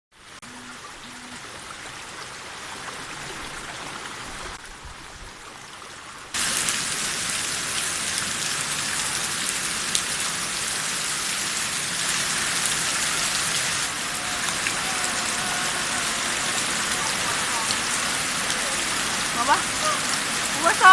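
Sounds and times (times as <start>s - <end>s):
heavy rain pouring: 0.2s - 20.9s.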